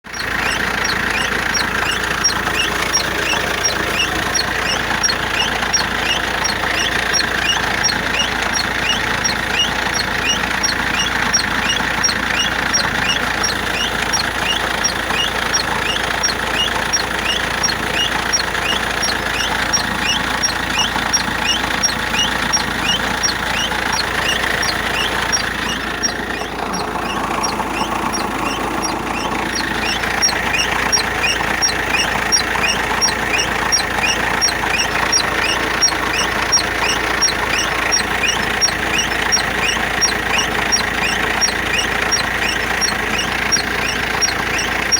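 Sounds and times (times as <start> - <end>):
van engine and running noise: 0.0 - 44.9
wheel metallic ticking: 0.0 - 44.9.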